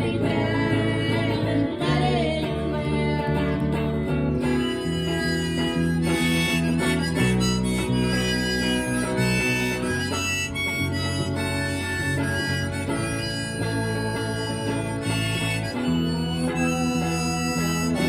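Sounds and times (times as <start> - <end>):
guitar chords: 0.0 - 18.0
harmonica blues melody: 0.0 - 18.0.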